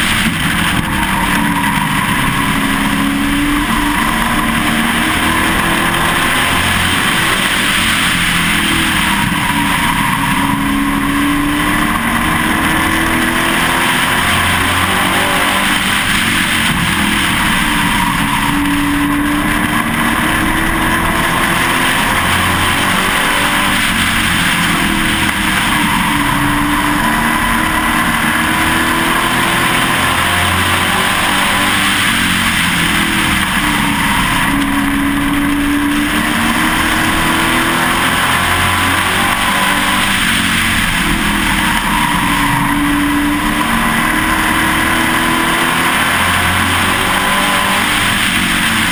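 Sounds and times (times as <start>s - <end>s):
race truck engine revving: 0.0s - 48.9s
road noise: 0.0s - 48.9s.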